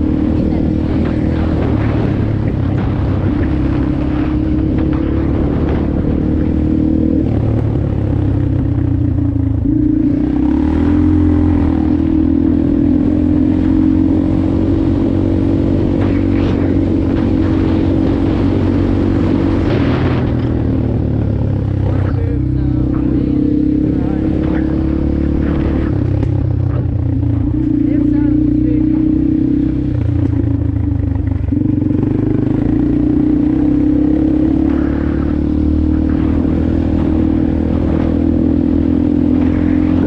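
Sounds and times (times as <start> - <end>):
dirt bike engine: 0.0 - 40.0.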